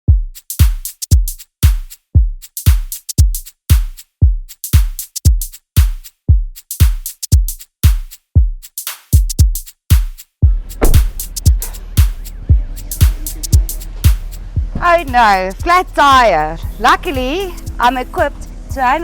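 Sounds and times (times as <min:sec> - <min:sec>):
electronic music with drum-machine beat: 0:00.0 - 0:19.0.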